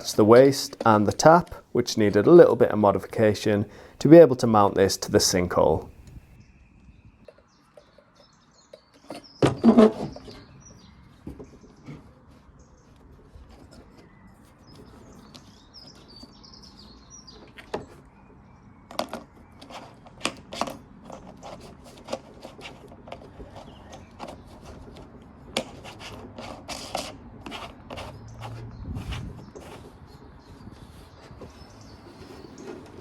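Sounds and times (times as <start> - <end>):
birds chirping faintly: 0.0 - 33.0.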